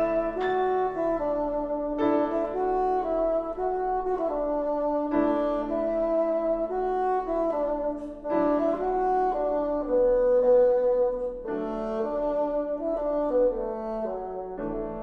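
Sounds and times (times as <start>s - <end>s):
bassoon playing slow melody: 0.0s - 15.0s
piano chords: 0.0s - 15.0s.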